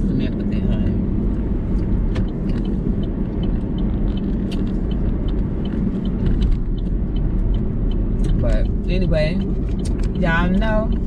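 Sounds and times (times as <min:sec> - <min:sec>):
car engine rumble: 0:00.0 - 0:11.0
faint light ticks: 0:01.3 - 0:11.0.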